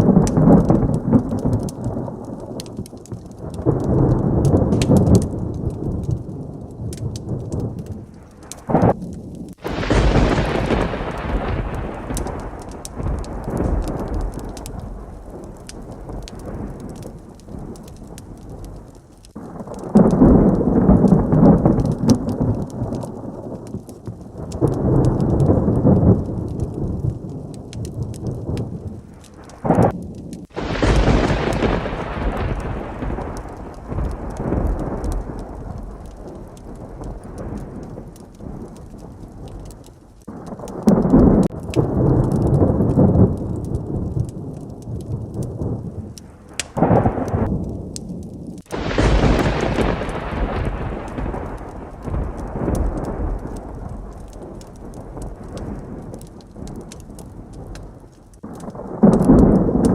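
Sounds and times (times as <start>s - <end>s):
heavy rain: 0.0s - 59.9s
loud thunderclap: 0.0s - 59.9s
thunder rumbling: 0.0s - 59.9s.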